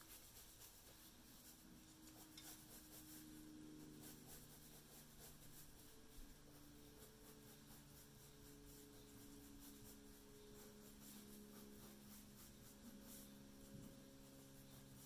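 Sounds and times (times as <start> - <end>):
faint low hum: 0.0 - 15.0
pencil scratching on paper: 0.0 - 15.0.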